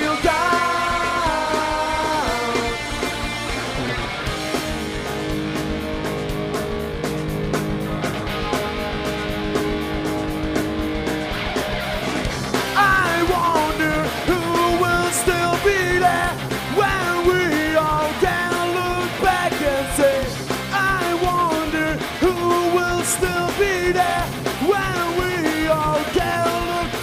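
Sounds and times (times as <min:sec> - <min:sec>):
guitar lead with bent notes: 0:00.0 - 0:27.0
punk rock band playing: 0:00.0 - 0:27.0.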